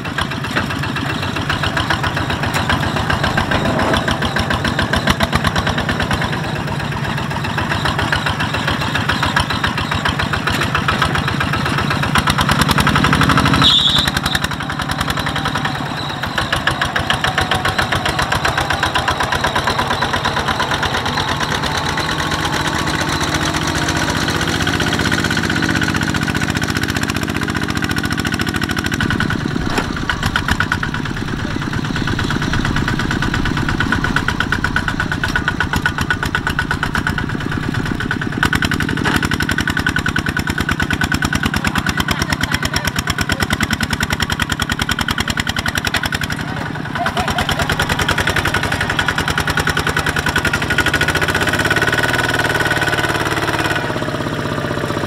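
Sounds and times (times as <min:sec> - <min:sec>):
diesel engine chugging: 0:00.0 - 0:55.0.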